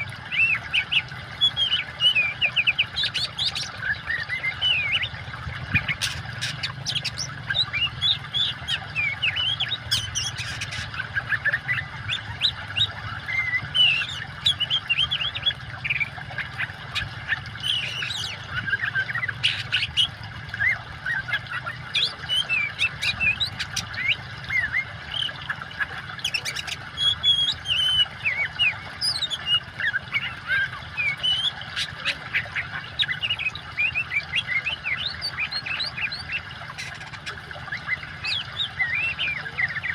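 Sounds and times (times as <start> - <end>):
bird singing: 0.0 - 39.9
low rush of water: 0.0 - 39.9.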